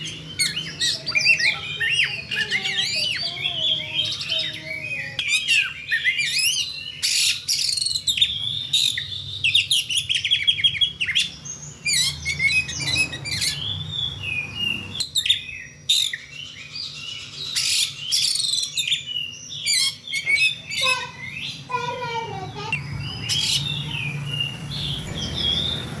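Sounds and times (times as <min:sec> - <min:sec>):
songbird whistles and trills: 0:00.0 - 0:21.9.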